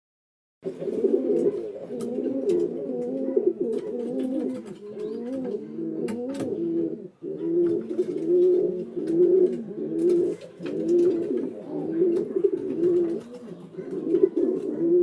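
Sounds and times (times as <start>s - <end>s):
pigeons cooing: 0.6s - 15.0s.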